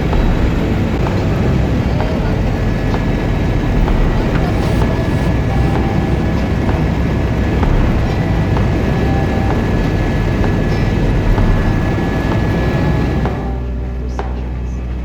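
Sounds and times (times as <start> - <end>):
helicopter engine and rotor: 0.0 - 13.8
thin steady whine: 0.0 - 15.0.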